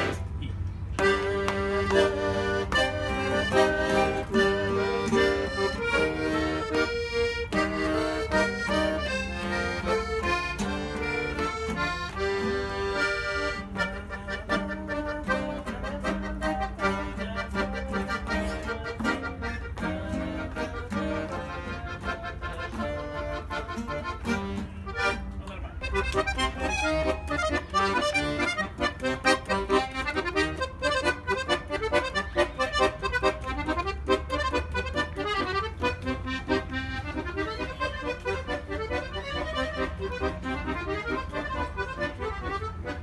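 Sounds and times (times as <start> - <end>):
accordion: 0.0 - 43.0
plucked two-string lute: 1.0 - 43.0.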